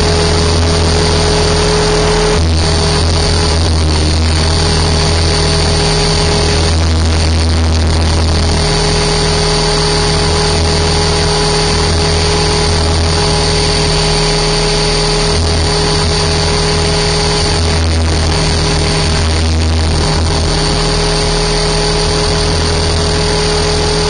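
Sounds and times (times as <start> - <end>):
rc helicopter rotor whine: 0.0 - 24.0.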